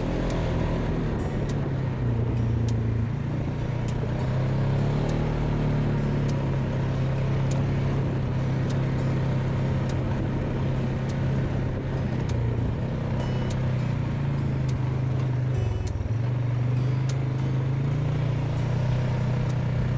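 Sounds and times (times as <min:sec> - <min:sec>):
atv engine running: 0:00.0 - 0:19.9.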